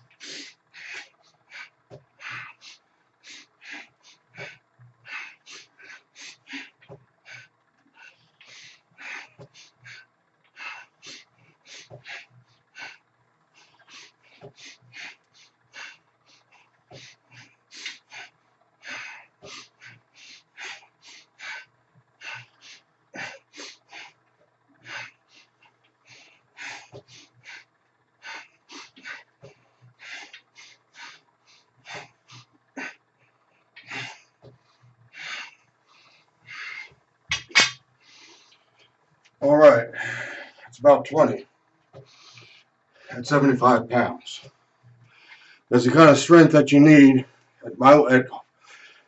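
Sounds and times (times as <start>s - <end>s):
man breathing hard: 0.0s - 40.8s, 42.0s - 43.2s, 44.3s - 45.7s, 48.4s - 49.0s.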